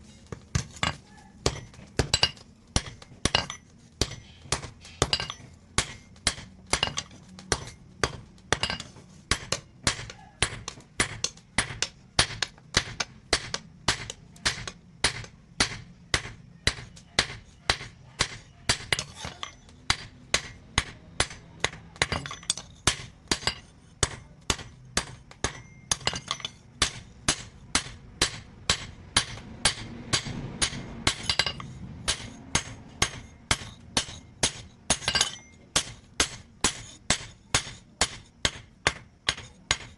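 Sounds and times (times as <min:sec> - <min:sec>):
hammer on steel on anvil: 0:00.6 - 0:39.9.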